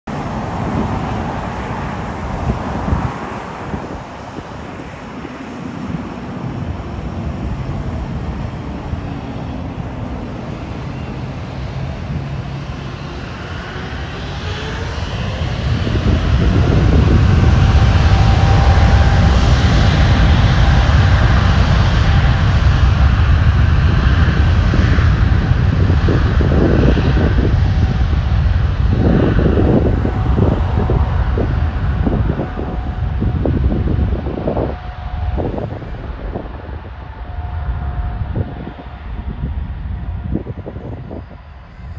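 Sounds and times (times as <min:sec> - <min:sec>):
jet engines low rumble: 0:00.0 - 0:41.9
jet engines whining: 0:00.1 - 0:41.9.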